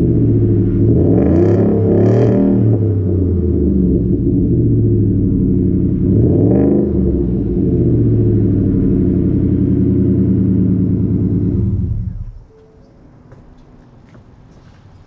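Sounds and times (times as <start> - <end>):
engine revving: 0.0 - 12.4
car engine idling: 0.0 - 12.6.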